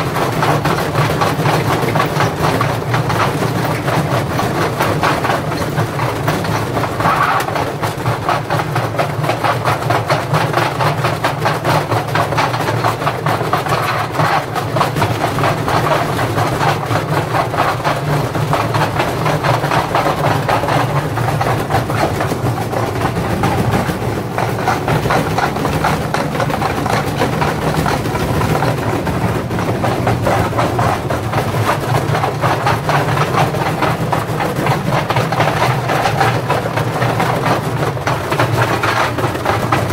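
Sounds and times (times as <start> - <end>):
bricks banging in drum: 0.0 - 39.9
washing machine drum drone: 0.0 - 39.9.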